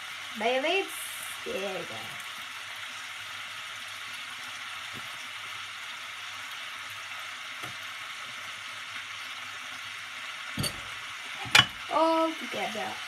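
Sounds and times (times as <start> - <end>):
ribs sizzling in a frying pan: 0.0 - 13.0.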